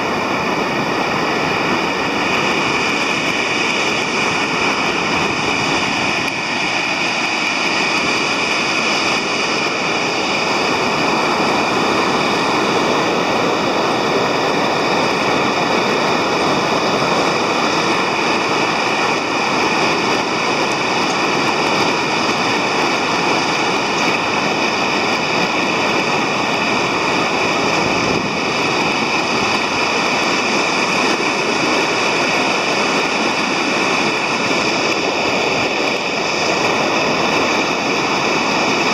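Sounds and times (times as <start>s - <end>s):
water rushing below a dam: 0.0s - 38.9s.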